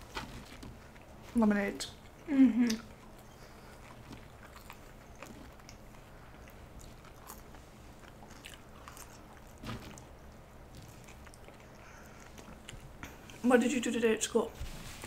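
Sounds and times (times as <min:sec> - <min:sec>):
chewing with small crunches: 0:00.0 - 0:13.4.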